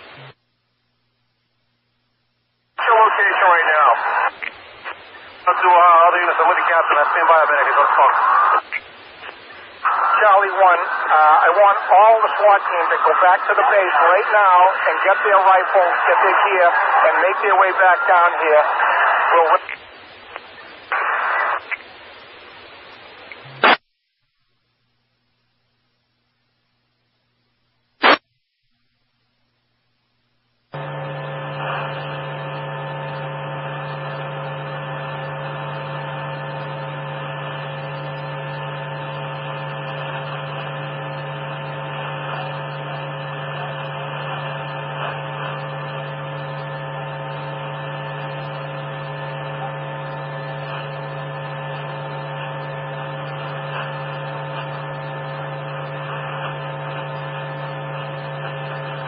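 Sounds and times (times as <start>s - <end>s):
radio static hum and hiss: 0.0s - 23.8s, 24.4s - 28.3s, 29.0s - 59.0s.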